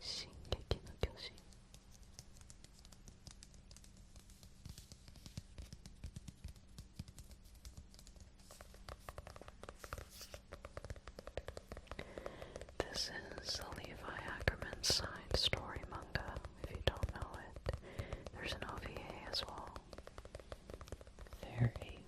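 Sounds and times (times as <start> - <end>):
fingertips tapping on a book: 0.2 - 22.0.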